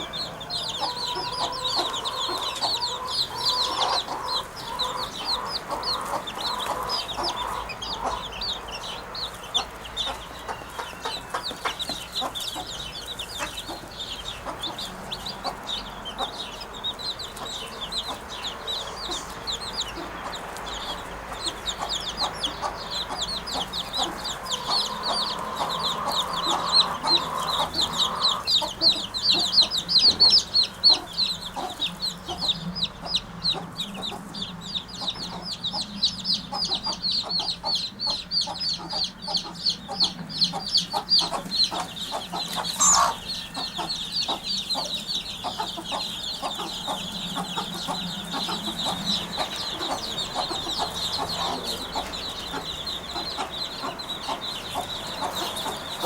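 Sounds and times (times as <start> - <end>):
birds chattering: 0.0 - 56.0.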